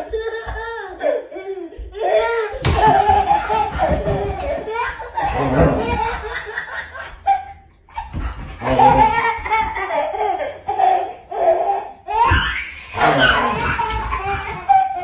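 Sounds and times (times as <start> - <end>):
toddler laughing: 0.0 - 15.0.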